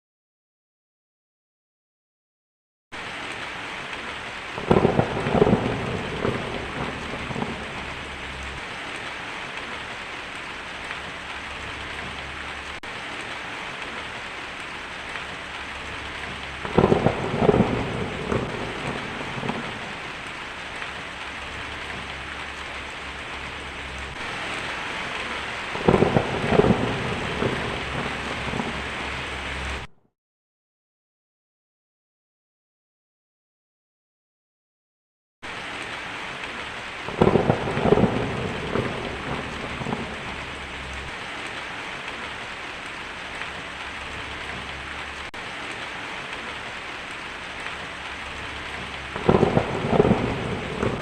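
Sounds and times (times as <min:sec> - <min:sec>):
heavy rain: 0:03.0 - 0:29.9, 0:35.4 - 0:51.0
thunder rumbling: 0:03.2 - 0:29.9, 0:36.4 - 0:51.0.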